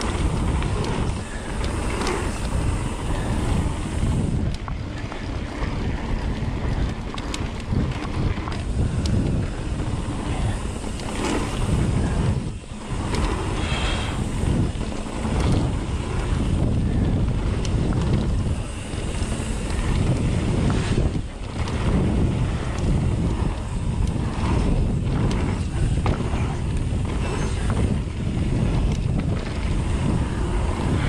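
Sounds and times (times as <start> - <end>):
mountain bike rumbling on dirt: 0.0 - 31.0
wind buffeting microphone: 0.0 - 31.0.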